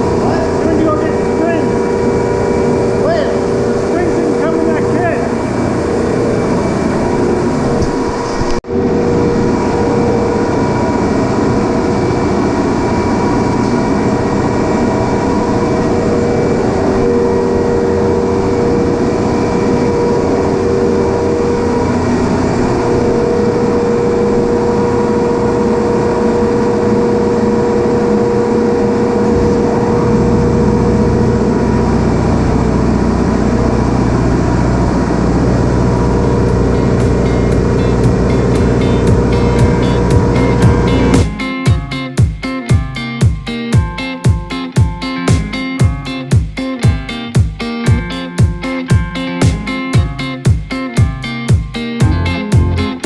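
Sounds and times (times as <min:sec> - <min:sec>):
industrial machinery humming: 0:00.0 - 0:53.0
steady machine tones: 0:00.0 - 0:53.0.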